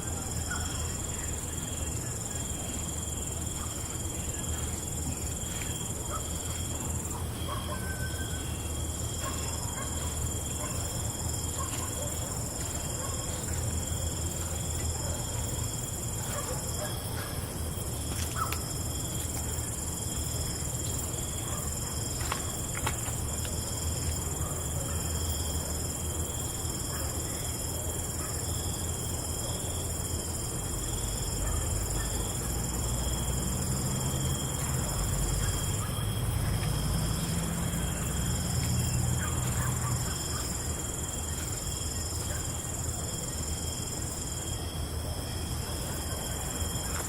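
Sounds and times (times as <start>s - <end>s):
crickets and insects trilling: 0.0s - 47.0s.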